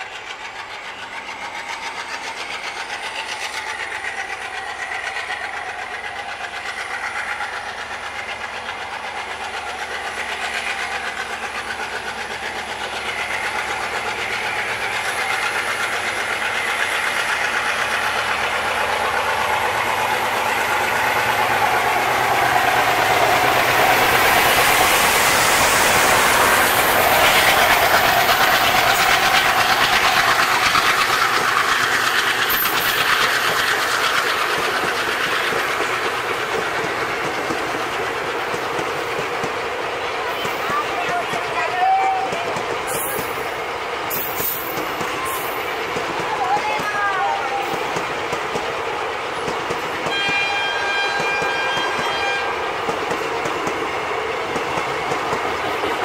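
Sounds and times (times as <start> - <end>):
diesel locomotive engine chugging: 0.0 - 56.0
train wheels on rails: 0.0 - 56.0.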